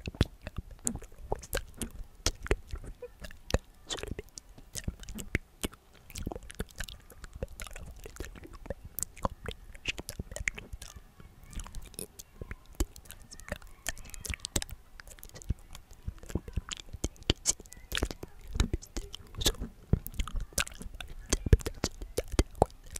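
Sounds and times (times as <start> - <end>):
mouth clicks and lip smacks: 0.0 - 22.9.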